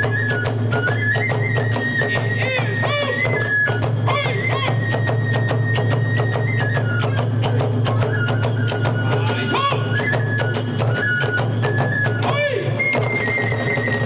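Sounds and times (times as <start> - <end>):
flute melody: 0.0 - 14.0
rapid drum and percussion strokes: 0.0 - 14.0.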